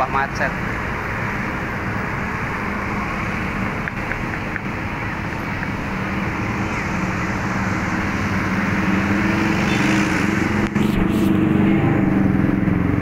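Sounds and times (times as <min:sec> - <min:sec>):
cars passing: 0:00.0 - 0:13.0
motorcycles passing: 0:00.0 - 0:13.0
steady engine drone: 0:00.0 - 0:13.0.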